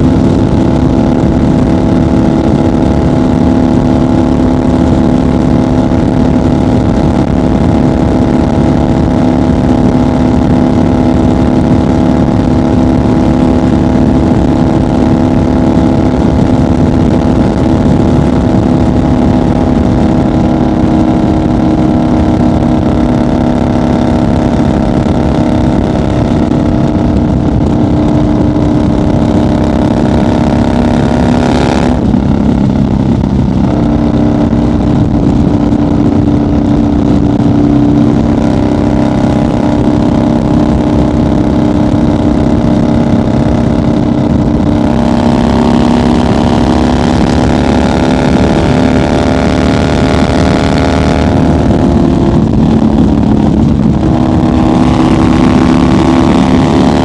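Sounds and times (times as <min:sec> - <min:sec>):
motorcycle engine cruising: 0:00.0 - 0:57.0
road and wind noise: 0:00.0 - 0:57.0.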